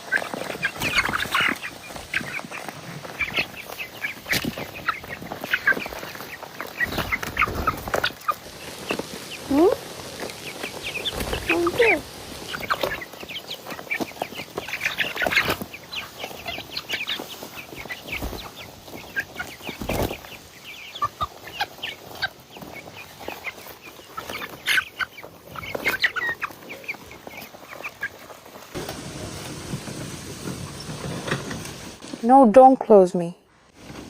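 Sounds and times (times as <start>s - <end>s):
chickens clucking and cheeping: 0.0s - 32.3s.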